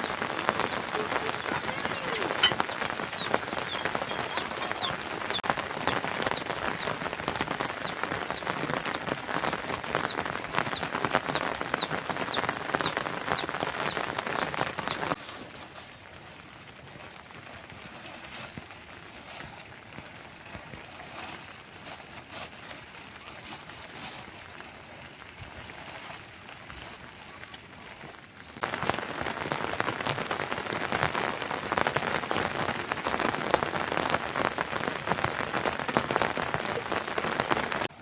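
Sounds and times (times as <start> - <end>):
rain falling: 0.0 - 20.9, 24.4 - 38.0.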